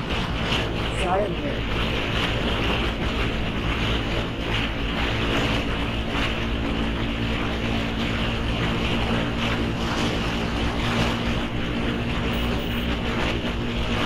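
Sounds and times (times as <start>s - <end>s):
motorcycle engine cruising: 0.0s - 14.0s
wind rushing over microphone: 0.0s - 14.0s.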